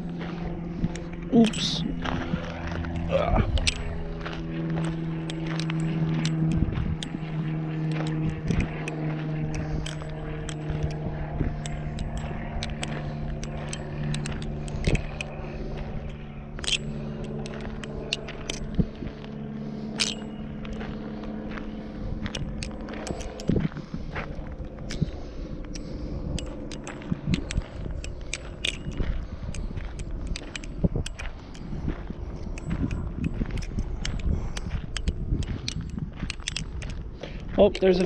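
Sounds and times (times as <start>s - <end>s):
butterfly knife clicking and rattling: 0.0s - 21.4s, 22.2s - 38.0s
steady low hum: 0.0s - 38.0s.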